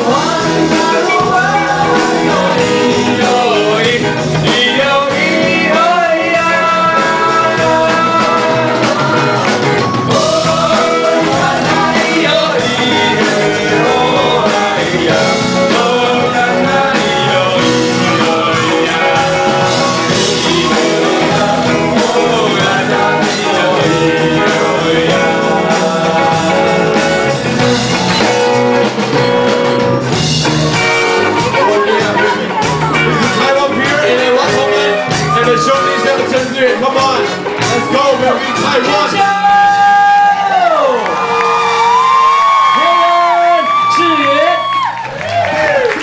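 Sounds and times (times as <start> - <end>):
upbeat band music with singing: 0.0 - 46.0.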